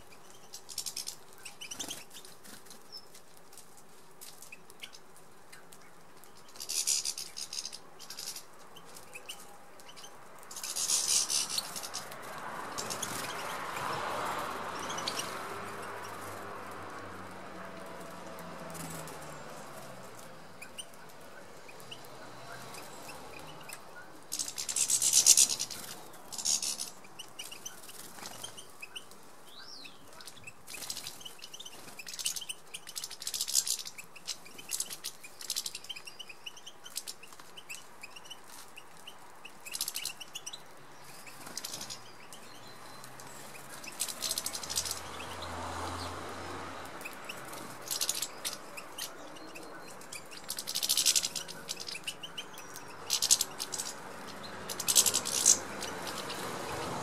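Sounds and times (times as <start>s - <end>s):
birds twittering: 0.0s - 3.3s, 4.0s - 57.0s.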